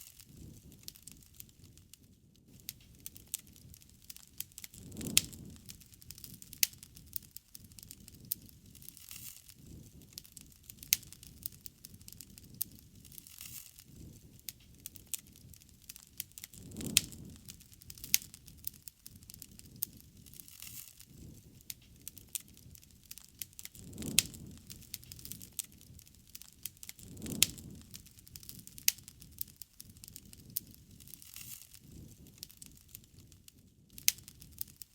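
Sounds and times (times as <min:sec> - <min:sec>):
wood fire crackling: 0:00.0 - 0:34.9
breathy swells of flame: 0:02.5 - 0:33.4.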